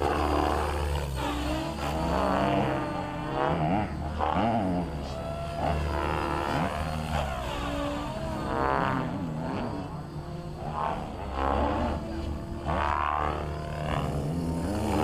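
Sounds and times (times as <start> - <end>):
helicopter rotor noise: 0.0 - 15.0
rc helicopter motor whine: 0.0 - 15.0.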